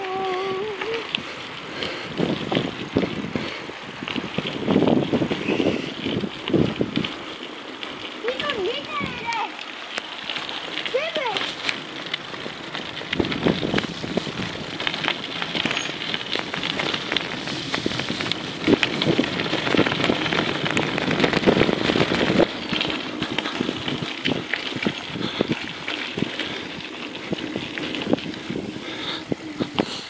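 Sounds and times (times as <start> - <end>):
bike clicking and rattling: 0.0 - 30.0
tyres crunching over stones: 0.3 - 30.0.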